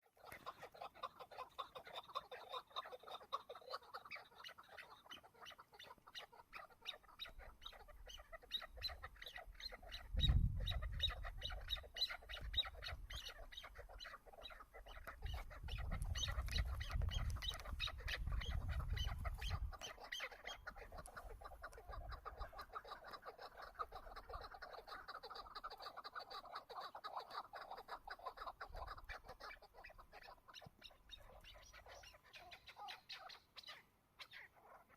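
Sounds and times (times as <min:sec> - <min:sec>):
partridge calling: 0:00.0 - 0:34.9.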